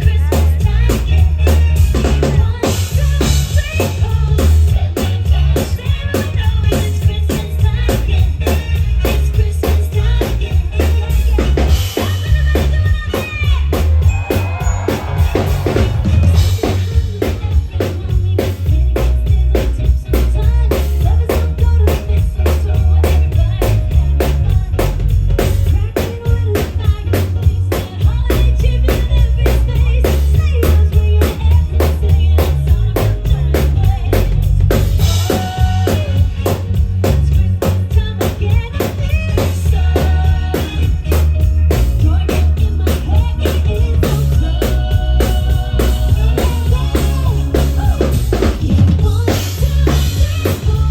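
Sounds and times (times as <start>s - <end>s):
drum kit beat: 0.0s - 50.9s
heavy bass: 0.0s - 50.9s
live band playing amplified music: 0.0s - 50.9s.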